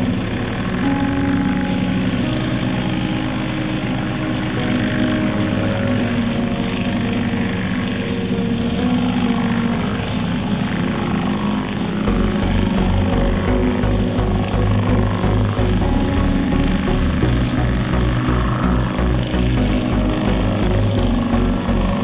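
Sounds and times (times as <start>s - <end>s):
pressure washer engine droning: 0.0s - 22.0s.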